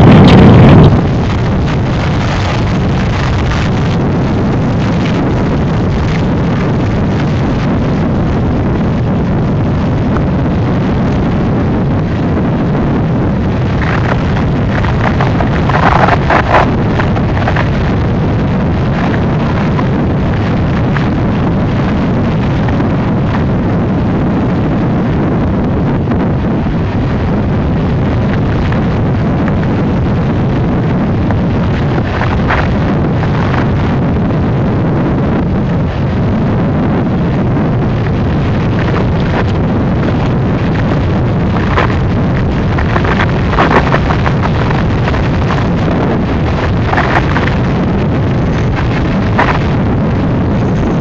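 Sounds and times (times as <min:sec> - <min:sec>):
wind noise on microphone: 0:00.0 - 0:51.0.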